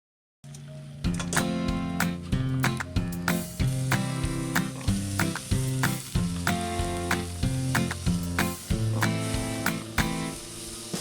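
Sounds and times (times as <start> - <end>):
background music with steady beat: 1.0 - 11.0.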